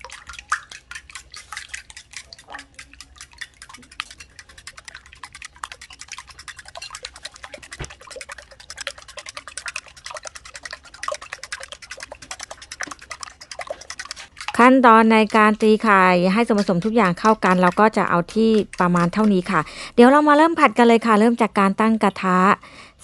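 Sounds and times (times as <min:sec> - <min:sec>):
utensil clicking against bowl: 0:00.0 - 0:20.2
egg mixture sloshing: 0:00.0 - 0:22.7.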